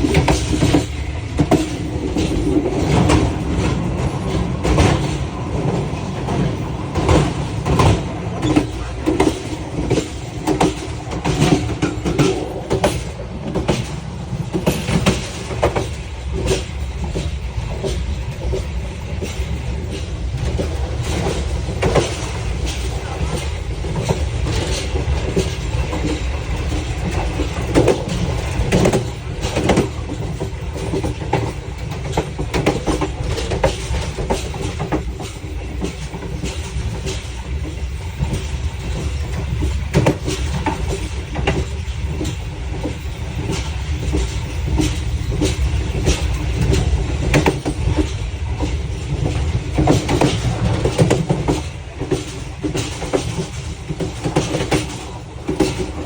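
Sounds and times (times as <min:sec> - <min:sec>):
low train rumble: 0:00.0 - 0:56.0
train wheels clicking over rail joints: 0:00.0 - 0:56.0.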